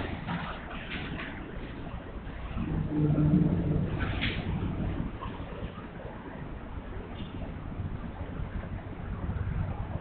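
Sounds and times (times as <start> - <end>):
room noise rumble: 0.0 - 10.0.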